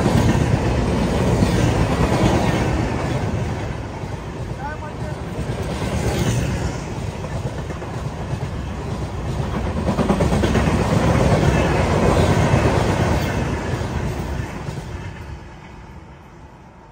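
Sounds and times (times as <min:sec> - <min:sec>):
train coaches rolling past: 0:00.0 - 0:16.9.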